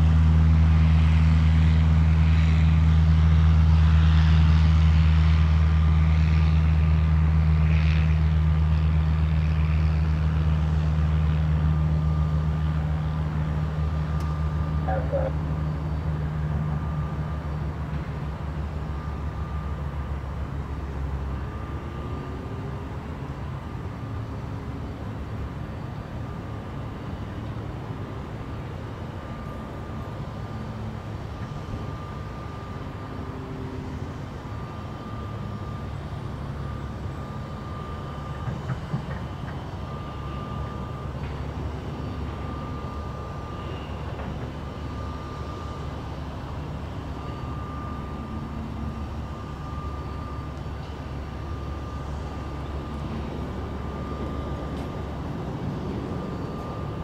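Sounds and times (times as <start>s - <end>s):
jet airliner engines rumbling: 0.0s - 57.0s.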